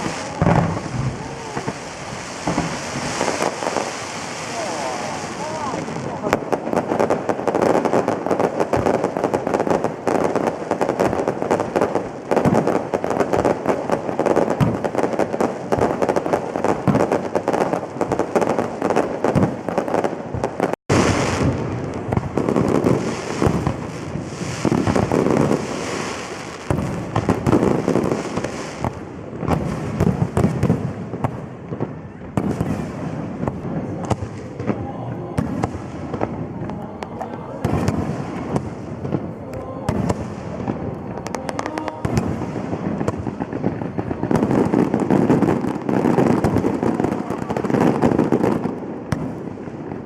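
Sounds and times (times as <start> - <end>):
fireworks pops and crackles: 0.0 - 50.0
heavy firework bursts: 0.0 - 50.0.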